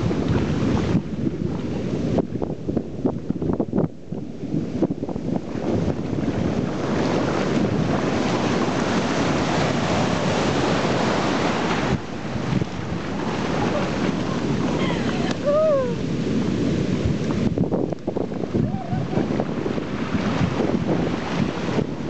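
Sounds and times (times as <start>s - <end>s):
surf washing over sand: 0.0s - 22.0s
wind buffeting microphone: 0.0s - 22.0s.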